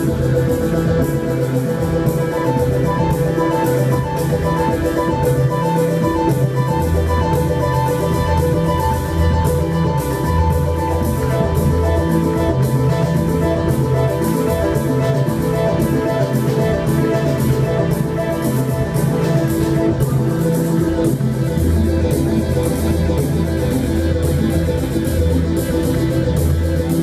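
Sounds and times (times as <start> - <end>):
pulsing bass line: 0.0 - 27.0
synthesizer note patterns: 0.0 - 27.0.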